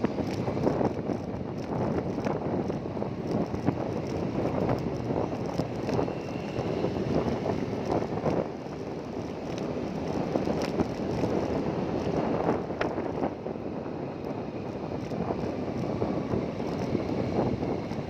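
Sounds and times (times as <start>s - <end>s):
vehicle running: 0.0s - 18.0s
wind buffeting microphone: 0.0s - 18.0s.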